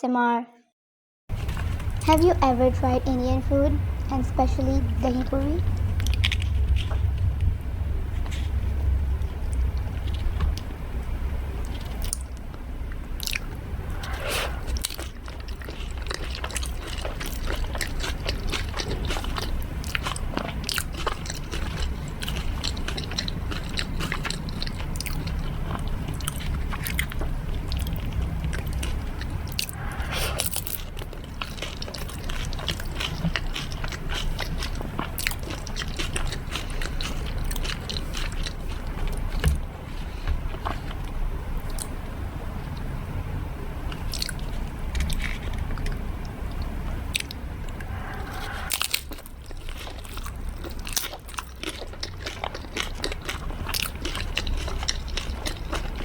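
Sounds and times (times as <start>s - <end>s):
crunchy food chewing: 4.4s - 7.5s, 11.6s - 42.0s, 43.9s - 46.0s, 46.6s - 56.0s.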